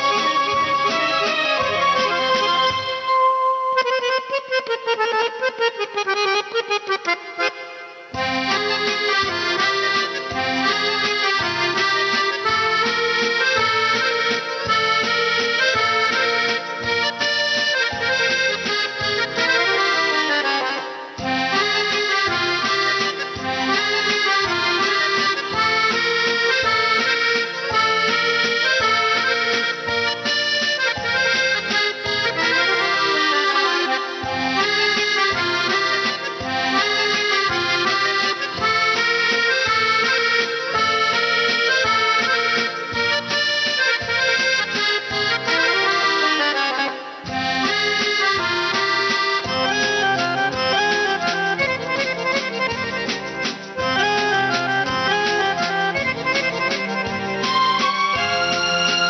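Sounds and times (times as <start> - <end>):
instrumental music with beat: 0.0 - 59.0.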